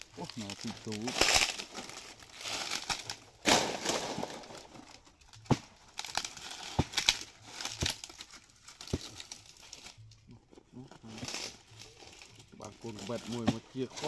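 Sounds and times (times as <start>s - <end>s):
dry palm fronds rustling: 0.0s - 14.0s.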